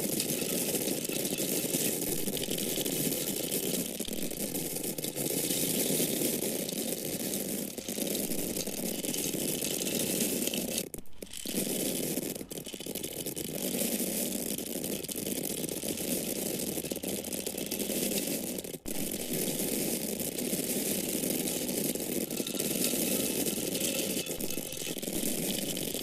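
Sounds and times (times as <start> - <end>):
dry corn grains pouring: 0.0 - 26.0.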